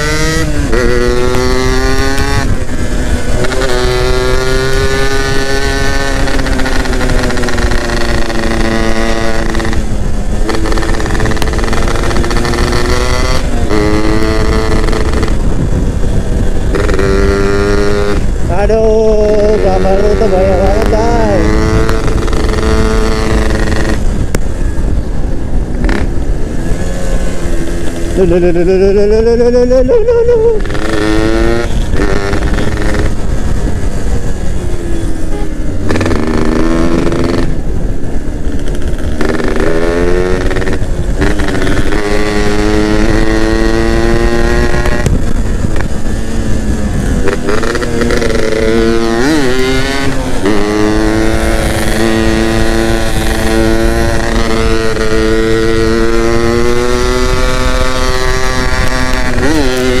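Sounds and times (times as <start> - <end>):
two-stroke motorcycle engine revving: 0.0 - 60.0.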